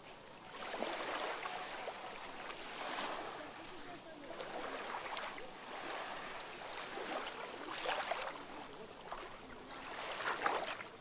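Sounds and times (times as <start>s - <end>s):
small waves lapping on shore: 0.0s - 11.0s.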